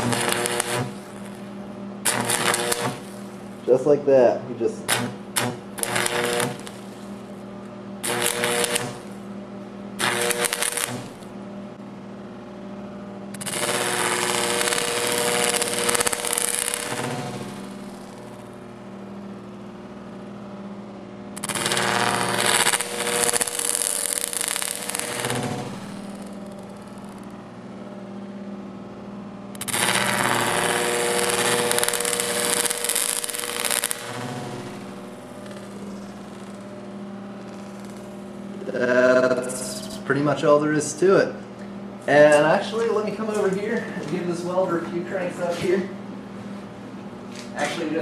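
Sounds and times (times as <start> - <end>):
welding arc crackling: 0.0 - 11.4, 13.3 - 19.3, 21.3 - 27.4, 29.5 - 40.9, 42.0 - 45.9, 47.3 - 48.0
steady hum: 0.0 - 48.0.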